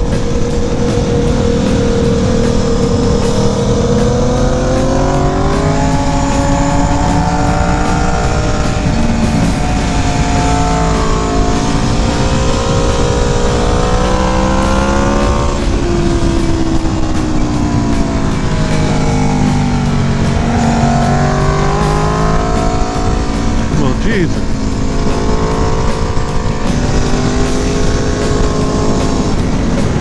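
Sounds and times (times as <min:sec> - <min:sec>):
motorcycle engine revving: 0:00.0 - 0:30.0
wind and road noise: 0:00.0 - 0:30.0.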